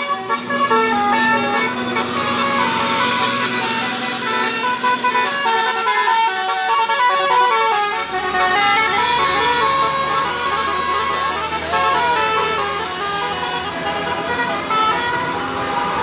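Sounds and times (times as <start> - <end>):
musical air horn tune: 0.0 - 16.0.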